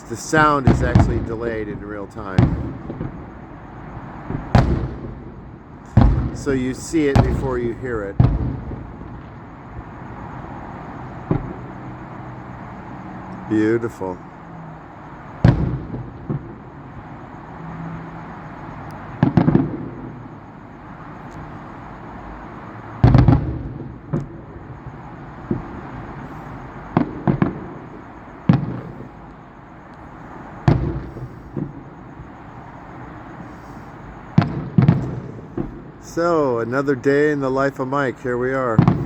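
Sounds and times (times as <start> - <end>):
distant fireworks booming: 0.0 - 39.0.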